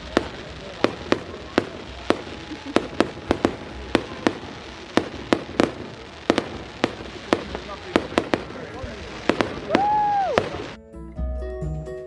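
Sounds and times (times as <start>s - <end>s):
fireworks exploding: 0.0s - 10.8s.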